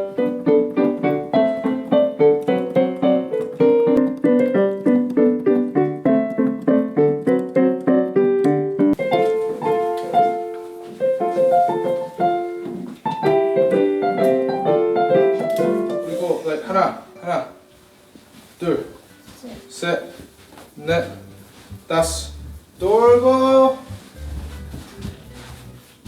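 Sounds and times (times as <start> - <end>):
piano playing: 0.0 - 26.0.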